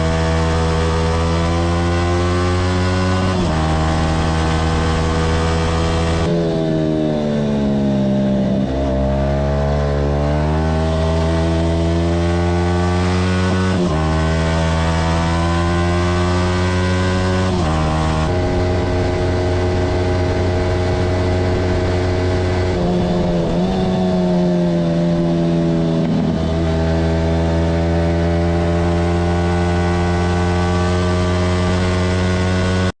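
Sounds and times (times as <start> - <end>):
motorcycle engine at high revs: 0.0 - 33.0.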